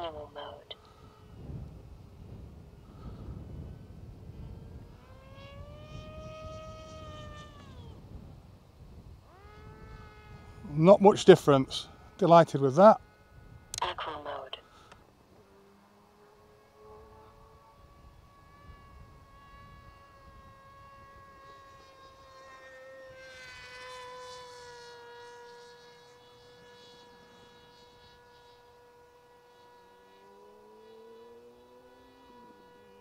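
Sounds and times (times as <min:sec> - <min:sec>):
electric motor and propeller whining: 0:00.0 - 0:33.0.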